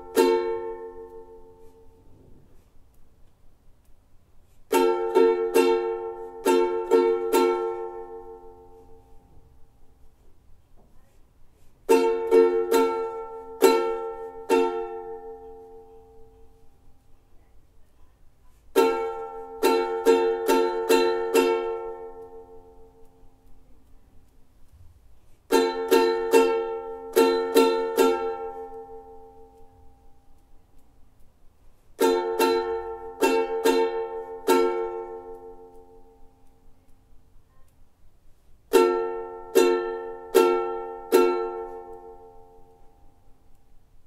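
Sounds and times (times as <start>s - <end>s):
ukulele strumming: 0.0s - 3.0s, 3.6s - 10.2s, 11.5s - 17.1s, 18.5s - 37.4s, 38.1s - 44.0s.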